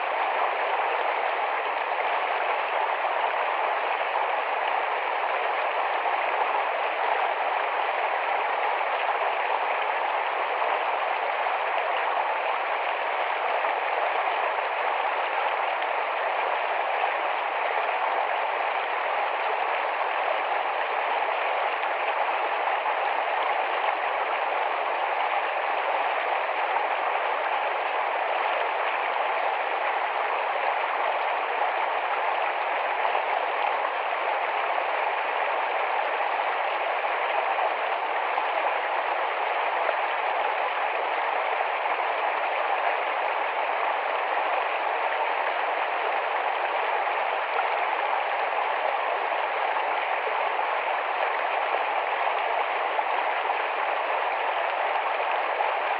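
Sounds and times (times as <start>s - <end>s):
stream water babbling: 0.0s - 55.9s.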